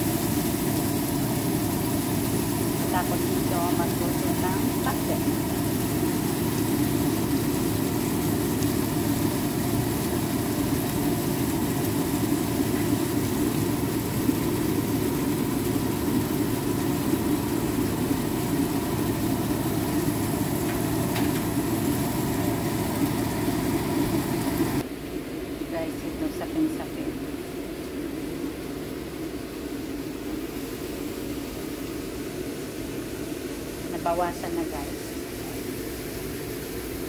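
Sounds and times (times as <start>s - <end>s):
fan motor drone: 0.0s - 37.0s.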